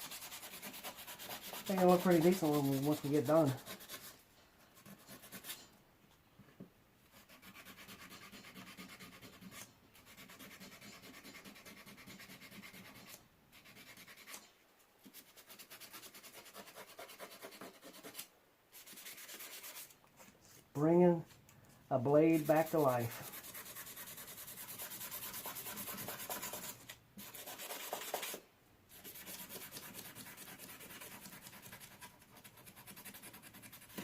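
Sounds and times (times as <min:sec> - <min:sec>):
sandpaper scratching metal blade: 0:00.0 - 0:04.2, 0:04.8 - 0:05.7, 0:07.2 - 0:14.5, 0:15.1 - 0:20.0, 0:22.2 - 0:34.0.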